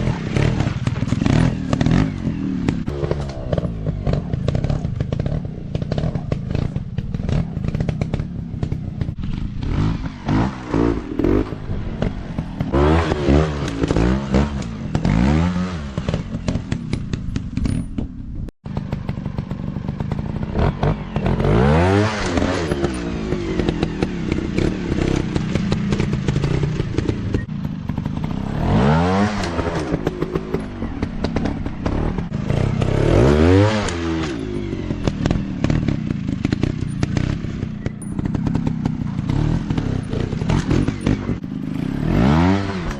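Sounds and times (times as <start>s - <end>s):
dirt bike engines revving: 0.0s - 17.7s, 18.7s - 42.9s.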